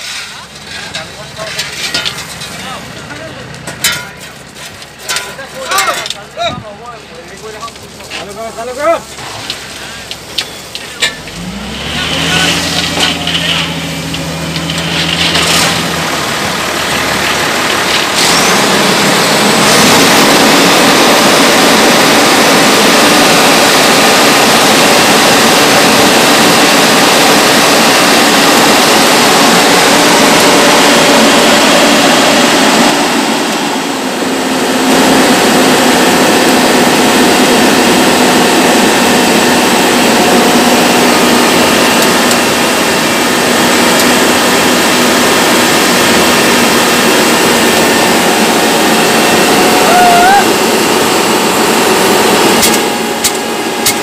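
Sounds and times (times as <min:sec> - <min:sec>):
paver diesel engine running: 0:00.0 - 0:54.0.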